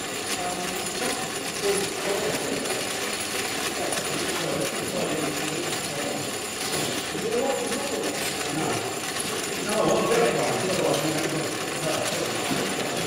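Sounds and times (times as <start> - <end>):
model locomotive metallic clatter: 0.0 - 13.0.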